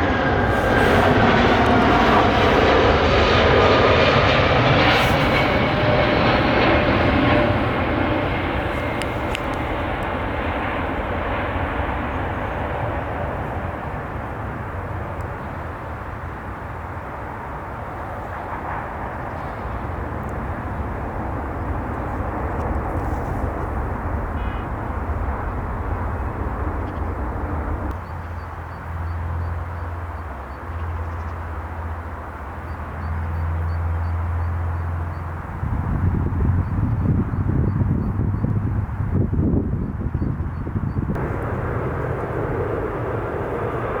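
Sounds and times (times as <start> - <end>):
jet engines rushing: 0.0 - 44.0.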